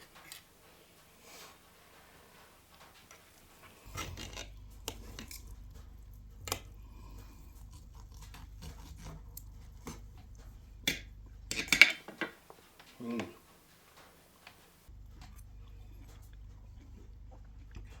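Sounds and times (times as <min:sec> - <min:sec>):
utensil scraping in a pan: 0:00.0 - 0:15.5
low steady hum: 0:00.0 - 0:18.0.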